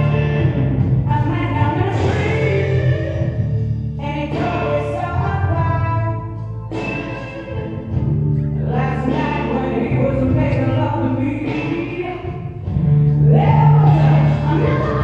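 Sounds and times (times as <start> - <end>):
music with singing voices: 0.0 - 15.0.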